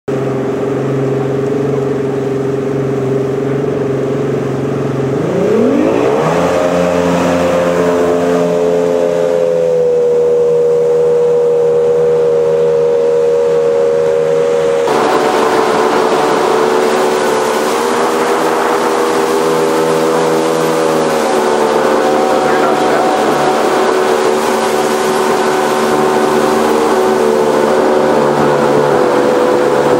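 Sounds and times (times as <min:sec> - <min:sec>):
jet boat engine revving: 0:00.1 - 0:29.9
rush of wind and water: 0:00.1 - 0:29.9.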